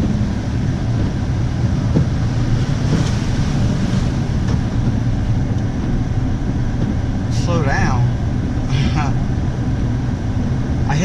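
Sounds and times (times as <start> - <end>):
water sloshing around tyres: 0.0 - 10.9
vehicle engine running: 0.0 - 11.0.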